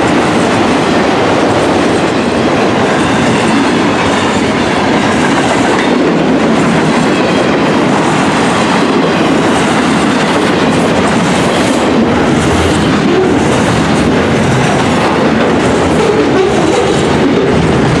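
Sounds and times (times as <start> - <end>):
train wheels rolling on rails: 0.0 - 18.0.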